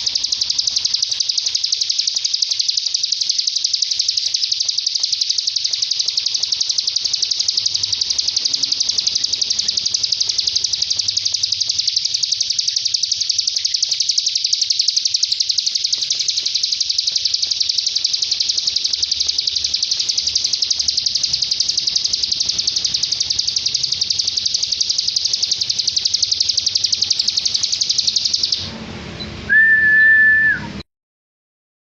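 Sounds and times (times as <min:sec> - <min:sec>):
songbird high-pitched trill: 0:00.0 - 0:28.6
steady whistle tone: 0:00.0 - 0:30.8.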